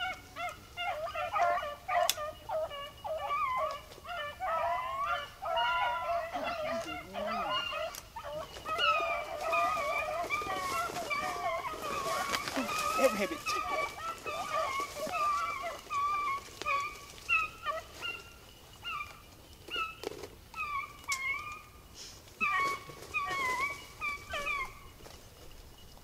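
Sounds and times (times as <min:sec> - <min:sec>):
beagles baying: 0:00.0 - 0:25.9.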